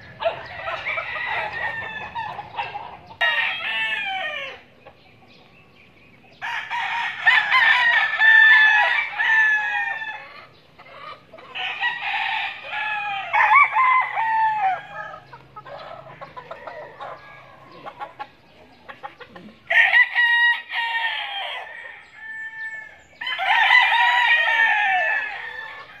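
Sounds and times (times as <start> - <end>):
roosters crowing: 0.0 - 5.5, 6.3 - 26.0.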